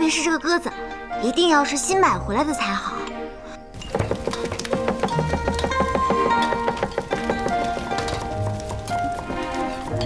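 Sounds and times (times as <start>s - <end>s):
background score music: 0.0s - 10.0s.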